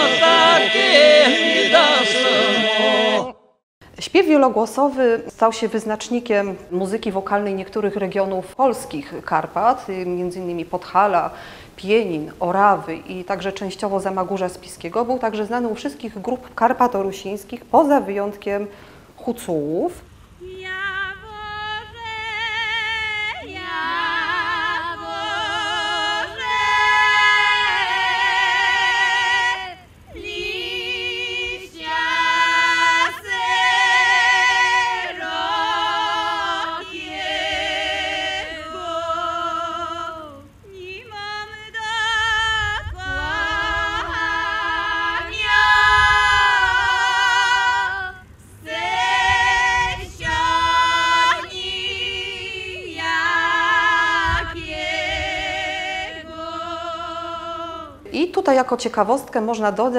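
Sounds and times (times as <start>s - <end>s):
women singing in harmony: 0.0s - 3.4s, 9.4s - 19.1s, 20.3s - 58.3s.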